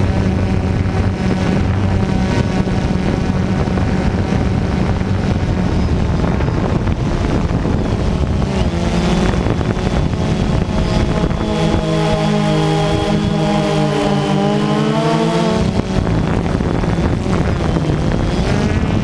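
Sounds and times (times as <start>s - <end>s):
drone propellers whirring: 0.0s - 19.0s
wind noise on microphone: 0.0s - 19.0s.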